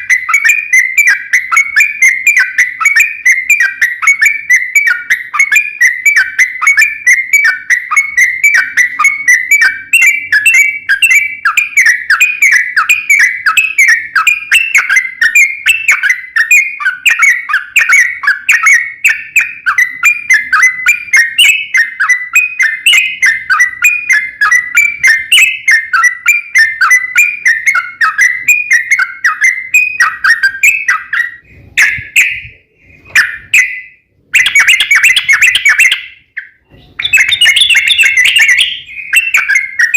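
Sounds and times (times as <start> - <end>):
bird song bubbling chirps: 0.0 - 39.9.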